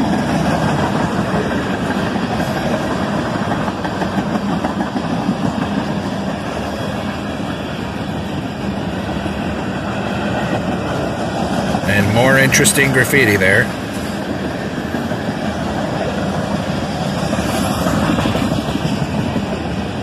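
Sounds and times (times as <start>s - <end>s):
train wheels rolling on rails: 0.0s - 20.0s.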